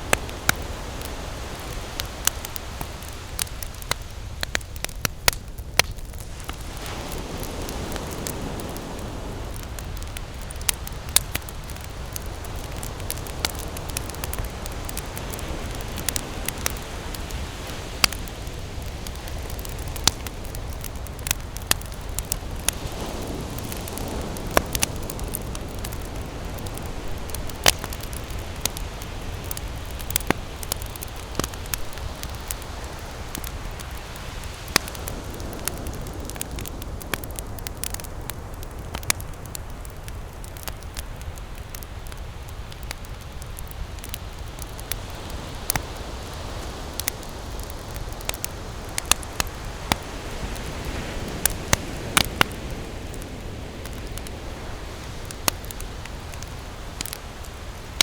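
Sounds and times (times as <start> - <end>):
campfire crackling and popping: 0.0 - 58.0
low rushing of fire: 0.0 - 58.0.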